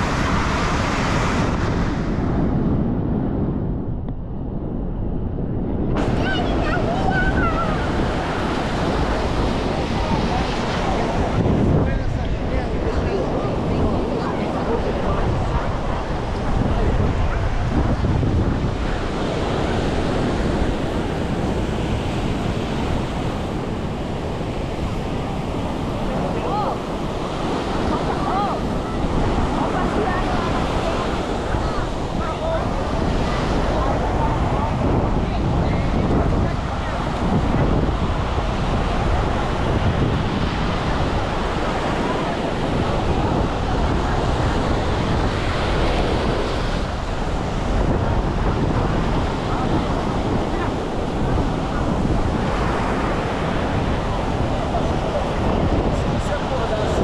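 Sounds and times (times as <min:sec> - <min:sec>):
surf washing onto beach: 0:00.0 - 0:03.5, 0:05.8 - 0:57.0
wind rumbling on microphone: 0:00.0 - 0:57.0.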